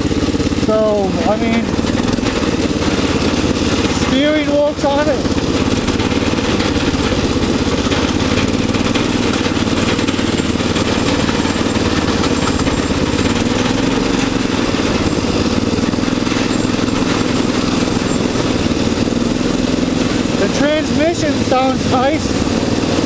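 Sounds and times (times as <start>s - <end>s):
gearbox transmission running: 0.0s - 23.0s
lawnmower engine running: 0.0s - 23.0s.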